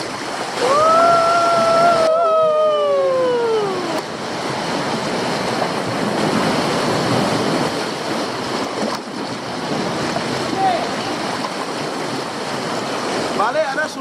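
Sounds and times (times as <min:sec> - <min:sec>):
rushing water: 0:00.0 - 0:14.0
wind: 0:00.0 - 0:14.0.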